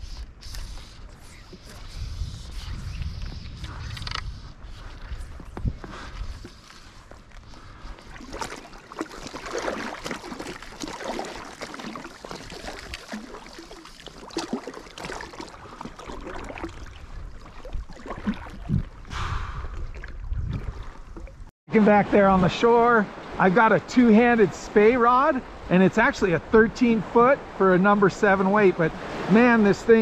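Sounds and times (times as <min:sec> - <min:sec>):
water lapping against float: 0:00.0 - 0:30.0.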